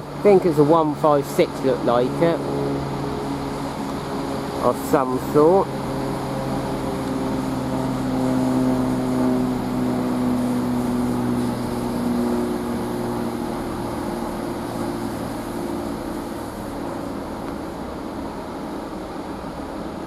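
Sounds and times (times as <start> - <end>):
diesel train engines droning: 0.0 - 20.0.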